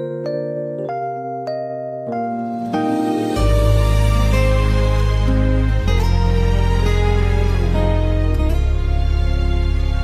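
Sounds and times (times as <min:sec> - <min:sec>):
slow gentle instrumental music: 0:00.0 - 0:10.0.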